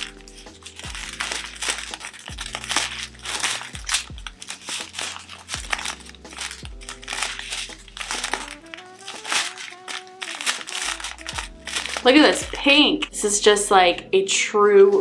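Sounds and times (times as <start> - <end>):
plastic packets crinkling: 0.0 - 13.1
background music with bass line: 0.0 - 14.2.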